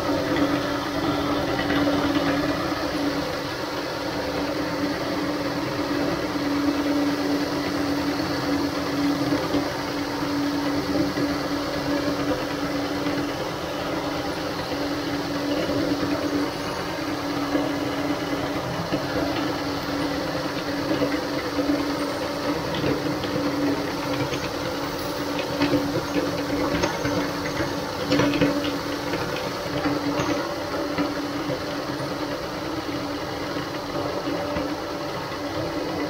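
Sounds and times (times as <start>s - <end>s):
meat grinder motor humming: 0.0s - 36.0s.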